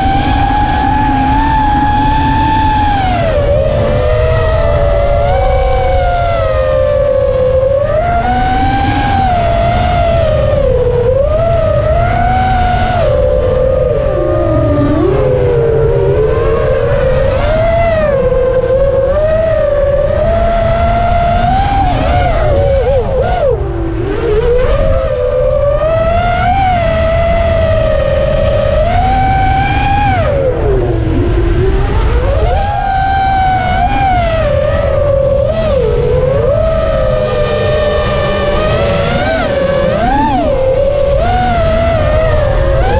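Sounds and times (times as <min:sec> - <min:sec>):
drone motors whining: 0:00.0 - 0:42.9
wind rumble on microphone: 0:00.0 - 0:42.9.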